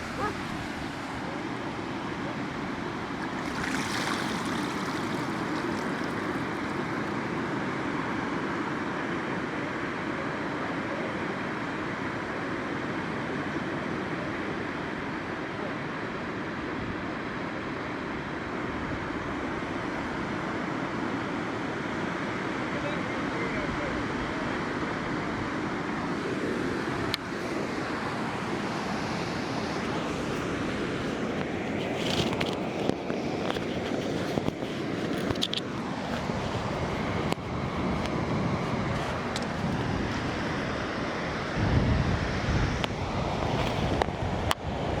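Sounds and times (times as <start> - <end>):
surf washing on sandy beach: 0.0 - 45.0.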